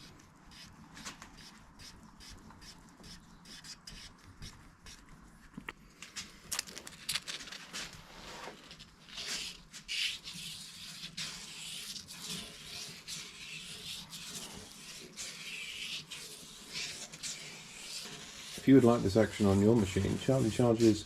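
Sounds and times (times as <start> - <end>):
scratchy rubbing and scraping: 0.0 - 21.0.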